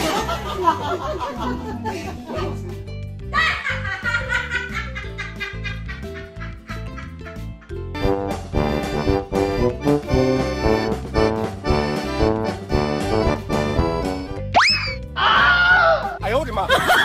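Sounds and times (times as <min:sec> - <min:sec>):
upbeat background music: 0:00.0 - 0:17.0.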